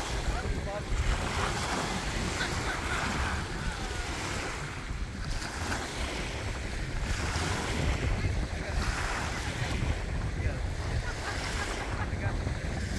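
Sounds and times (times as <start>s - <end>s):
small waves washing onto sand: 0.0s - 12.9s
wind rumbling on microphone: 0.0s - 12.9s.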